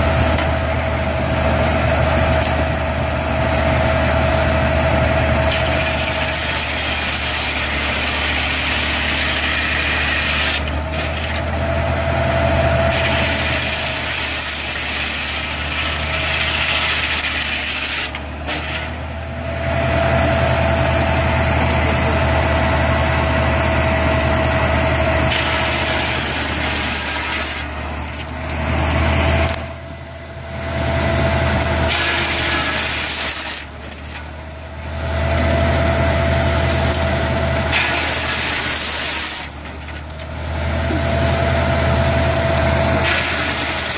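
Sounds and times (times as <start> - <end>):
engine hum: 0.0 - 43.9
shingle mill cutting wood: 4.2 - 29.7, 30.8 - 34.6, 35.2 - 43.9.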